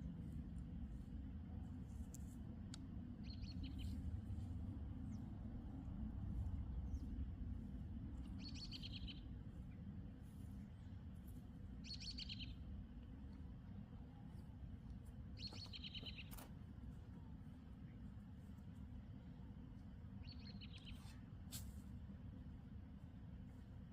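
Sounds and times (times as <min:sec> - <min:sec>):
faint low rumble: 0:00.0 - 0:23.9.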